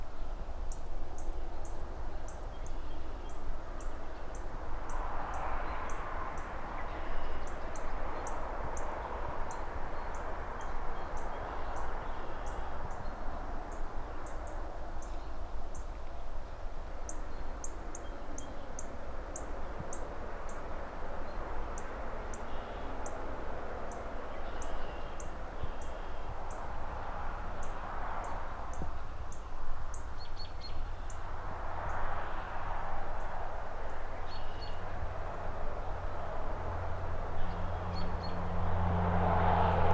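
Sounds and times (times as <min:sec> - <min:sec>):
distant city traffic: 0:00.0 - 0:39.9.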